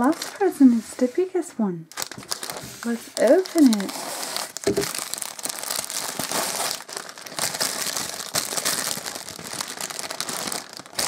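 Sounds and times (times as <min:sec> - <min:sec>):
tissue paper crinkling: 0:00.0 - 0:01.3, 0:01.9 - 0:11.0.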